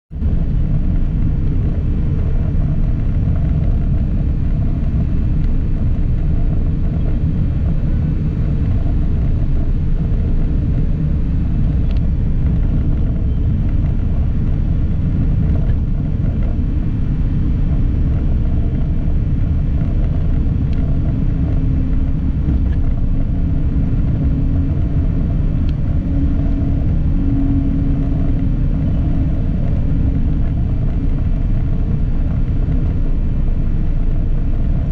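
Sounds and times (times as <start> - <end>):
moving vehicle rumble: 0.1 - 34.9.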